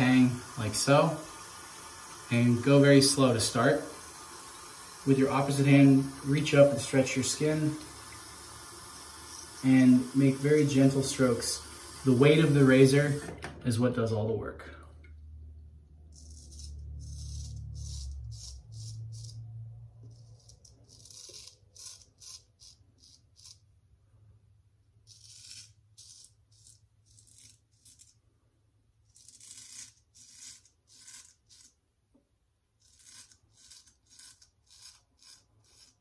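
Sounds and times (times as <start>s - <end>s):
razor scraping stubble: 0.0s - 13.3s, 16.1s - 23.7s, 25.0s - 28.2s, 29.0s - 31.8s, 32.8s - 36.0s.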